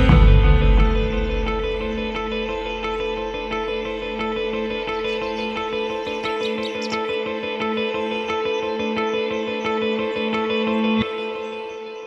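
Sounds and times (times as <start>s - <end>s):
plucked string notes: 0.0s - 11.2s.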